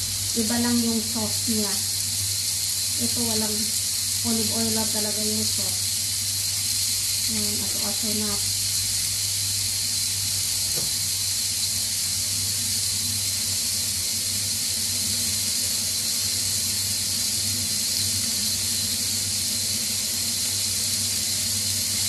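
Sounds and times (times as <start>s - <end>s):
vegetables sizzling in a grill pan: 0.0s - 22.0s.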